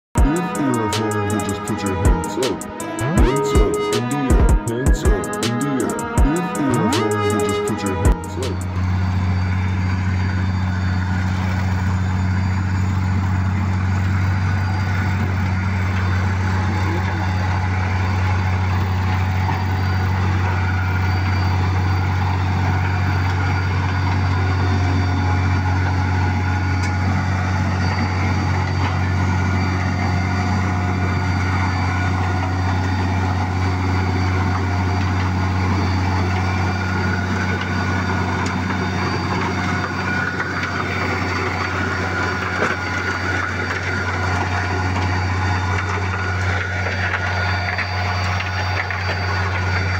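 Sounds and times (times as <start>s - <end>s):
heavy diesel engines droning: 0.0s - 49.9s
faint high whines: 0.2s - 49.9s.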